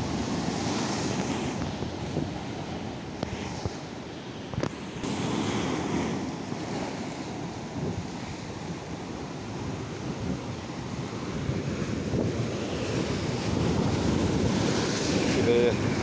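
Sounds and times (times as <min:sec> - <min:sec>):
surf breaking over rocks: 0:00.0 - 0:08.9, 0:09.6 - 0:16.0
wind buffeting microphone: 0:00.0 - 0:16.0.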